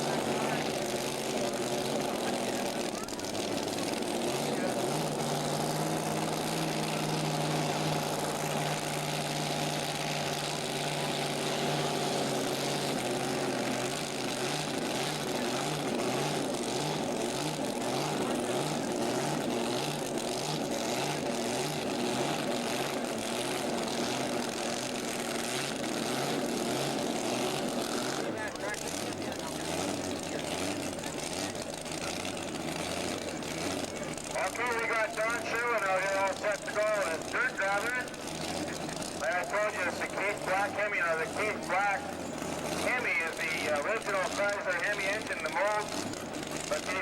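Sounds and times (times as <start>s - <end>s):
large engine droning: 0.0s - 47.0s.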